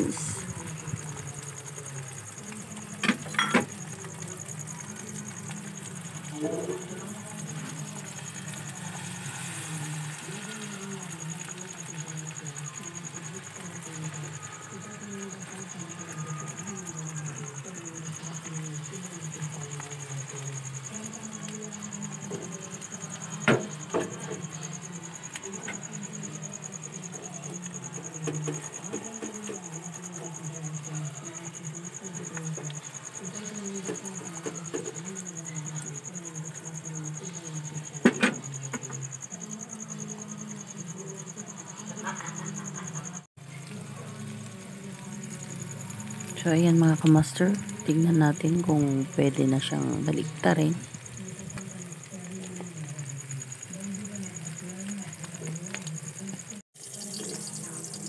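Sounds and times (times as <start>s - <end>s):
egg frying in oil: 0.0s - 36.0s, 41.6s - 58.0s
pulsing insect trill: 0.0s - 58.0s.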